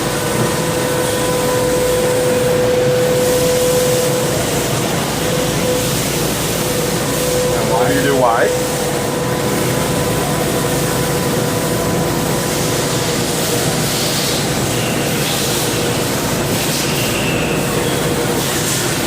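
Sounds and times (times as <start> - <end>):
faint constant whine: 0.0 - 19.0
machine spindle hiss: 0.0 - 19.0.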